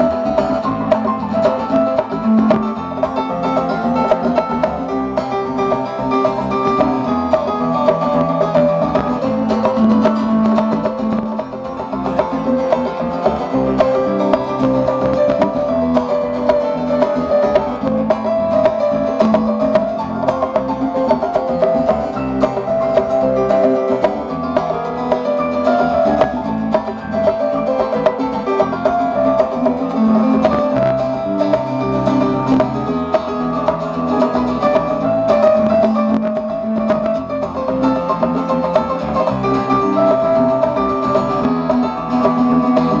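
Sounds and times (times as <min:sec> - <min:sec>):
acoustic guitar strumming: 0:00.0 - 0:43.0
drum kit: 0:00.0 - 0:43.0
electric bass: 0:00.0 - 0:43.0.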